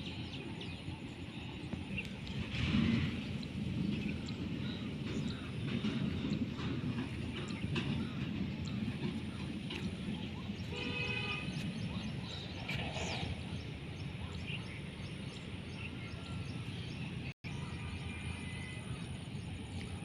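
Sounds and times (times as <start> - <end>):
low rumbling outdoor noise: 0.0 - 20.0.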